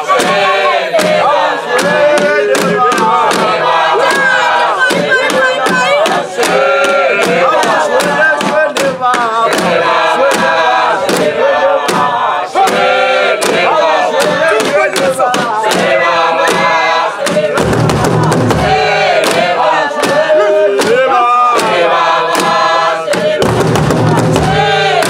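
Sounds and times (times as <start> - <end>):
group chanting and singing: 0.0 - 25.0
sharp percussive strikes: 0.0 - 25.0.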